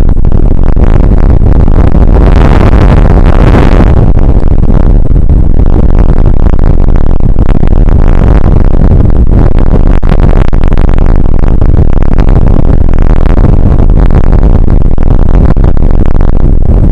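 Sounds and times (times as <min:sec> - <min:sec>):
distorted rain and wind noise: 0:00.0 - 0:16.9.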